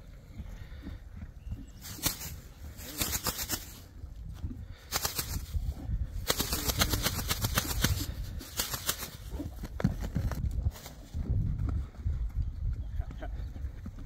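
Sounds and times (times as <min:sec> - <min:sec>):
steady low rumble: 0:00.0 - 0:14.0
horse hoofbeats: 0:00.1 - 0:03.9, 0:04.9 - 0:14.0.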